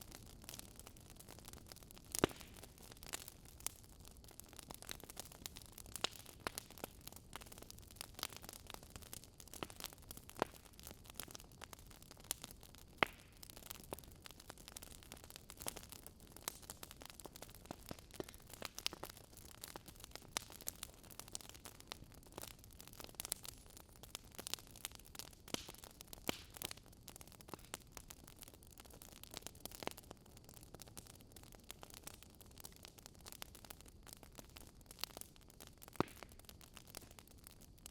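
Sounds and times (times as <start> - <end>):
wood fire popping and snapping: 0.0 - 37.9.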